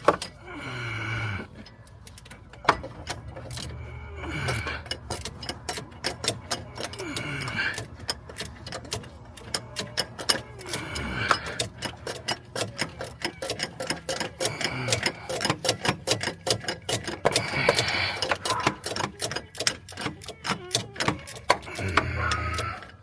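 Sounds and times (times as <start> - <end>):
ratchet wrench clicking: 0.0 - 23.0.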